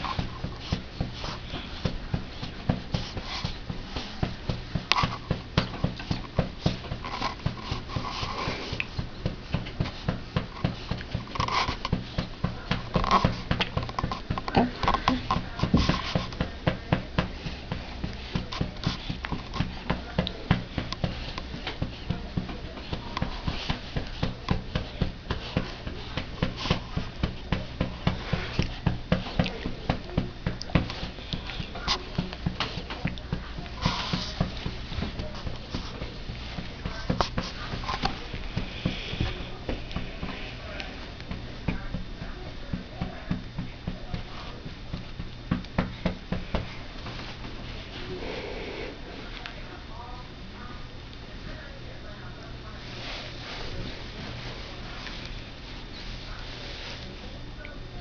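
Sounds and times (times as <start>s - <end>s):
patting on baby's back: 0.0s - 50.0s.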